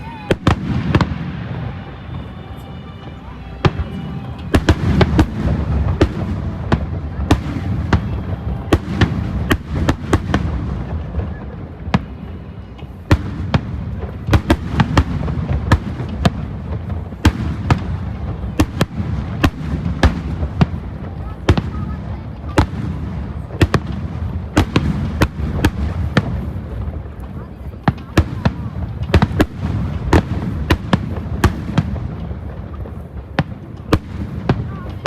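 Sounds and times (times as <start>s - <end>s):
distant firework rumble: 0.0s - 35.0s.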